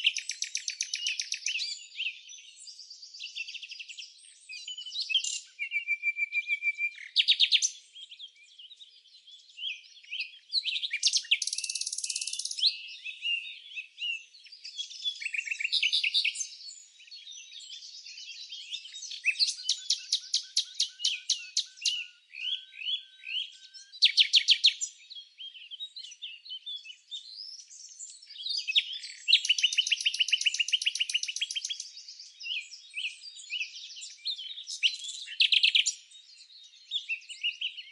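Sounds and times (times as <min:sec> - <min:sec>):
songbirds chirping and singing: 0:00.0 - 0:37.9.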